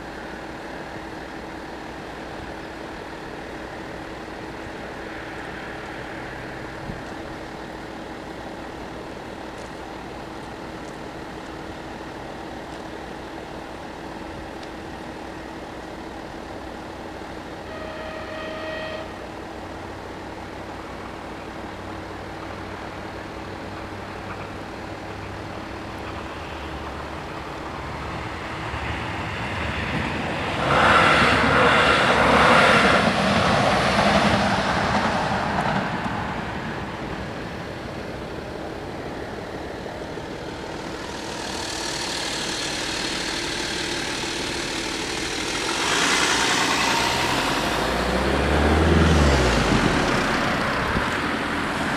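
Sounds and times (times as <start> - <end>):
road vehicles passing: 0.0 - 51.9.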